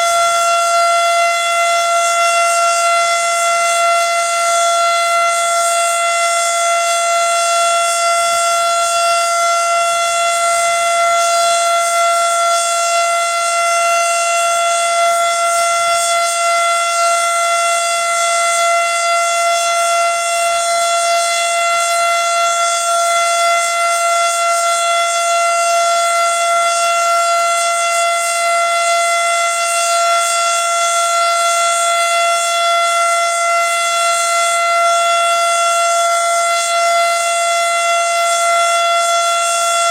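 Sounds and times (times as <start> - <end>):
tornado warning siren steady tone: 0.0 - 39.9.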